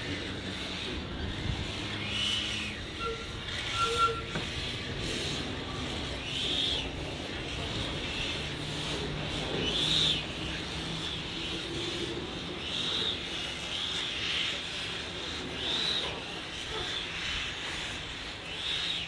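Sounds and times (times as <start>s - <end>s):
birds calling: 0.0s - 19.0s
steady background rush: 0.0s - 19.0s.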